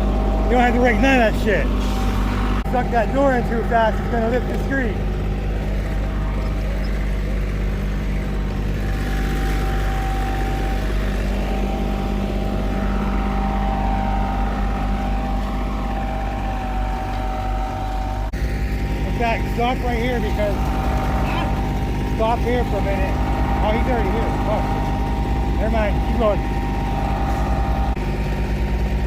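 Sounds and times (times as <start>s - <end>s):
diesel engine running: 0.0s - 29.0s
high whine: 0.0s - 29.0s.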